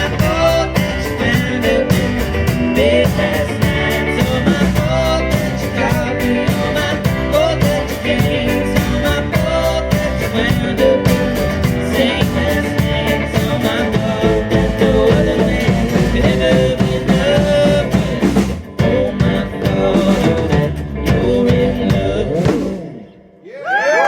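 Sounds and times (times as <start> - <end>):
drums keeping a steady beat: 0.0 - 23.1
live rock band playing: 0.0 - 23.3.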